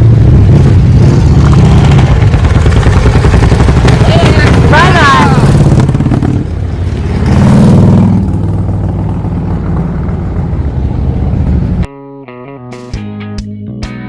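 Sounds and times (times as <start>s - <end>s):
motorcycle engine revving and idling: 0.0s - 11.9s.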